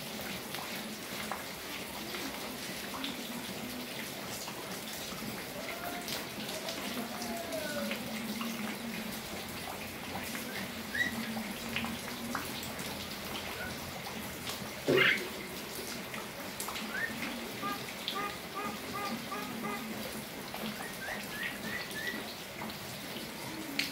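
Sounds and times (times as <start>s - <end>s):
rain on concrete: 0.0s - 23.9s.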